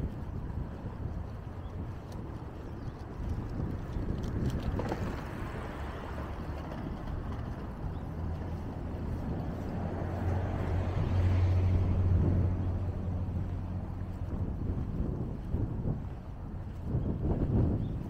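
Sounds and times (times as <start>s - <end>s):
vehicle passing: 0.0s - 17.8s.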